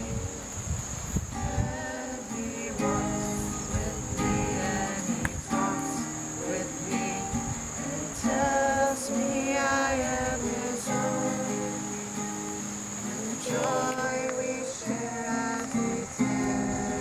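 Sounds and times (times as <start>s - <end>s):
women and children singing: 0.0s - 0.6s, 1.3s - 17.0s
acoustic guitar: 0.0s - 17.0s.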